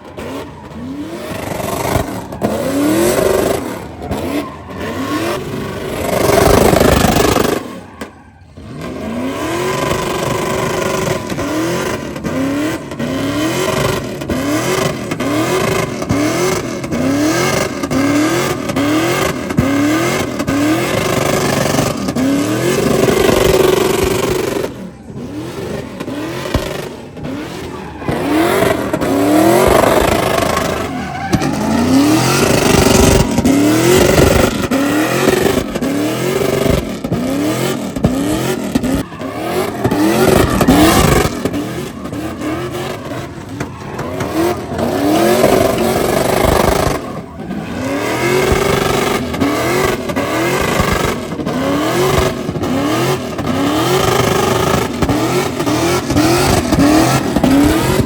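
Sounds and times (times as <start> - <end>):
engine revving hard: 0.0 - 58.0
tires squealing: 0.0 - 58.0.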